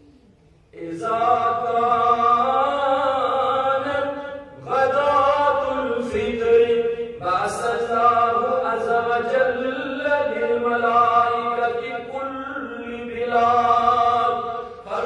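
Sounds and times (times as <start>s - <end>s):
man chanting into a microphone: 0.7s - 15.0s.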